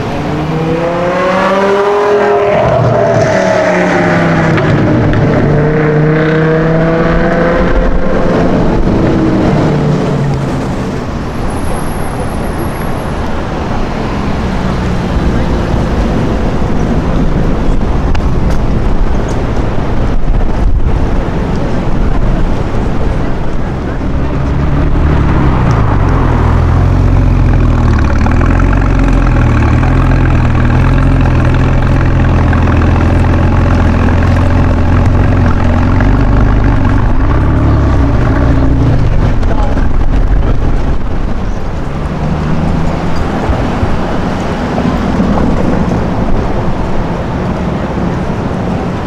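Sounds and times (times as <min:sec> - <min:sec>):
car engine driving by: 0:00.0 - 0:49.0
second car engine: 0:00.0 - 0:49.0.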